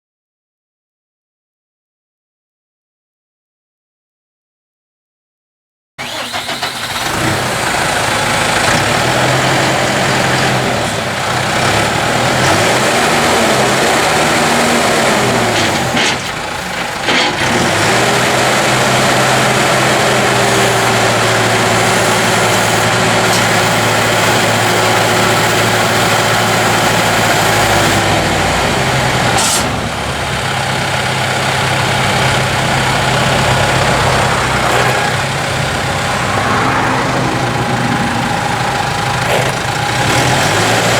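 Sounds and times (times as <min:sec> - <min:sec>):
tractor diesel engine running: 0:06.0 - 0:40.9.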